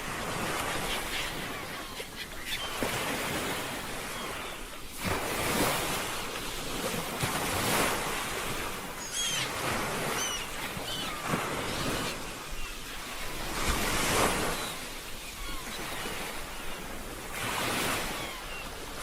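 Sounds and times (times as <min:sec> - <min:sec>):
ocean waves washing on shore: 0:00.0 - 0:19.0.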